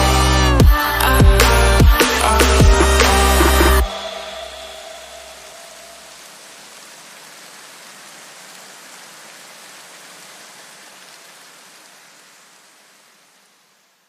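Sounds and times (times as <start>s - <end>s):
rushing hiss: 0.0s - 11.6s.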